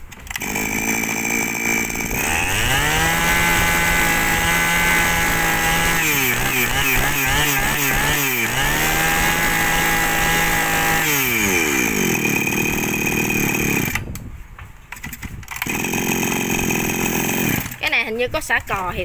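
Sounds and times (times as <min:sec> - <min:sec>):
brush cutter engine revving: 0:00.1 - 0:14.2, 0:15.4 - 0:18.9.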